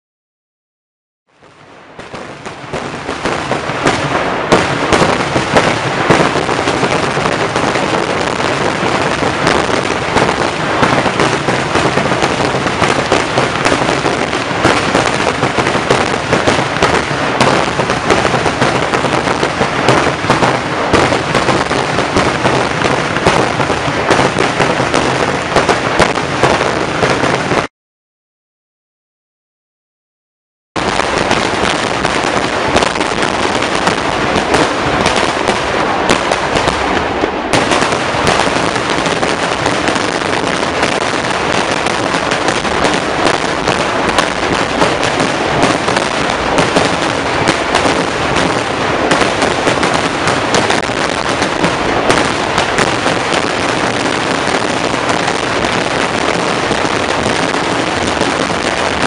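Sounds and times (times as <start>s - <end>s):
firecrackers bursting: 1.4s - 27.7s, 30.8s - 59.0s.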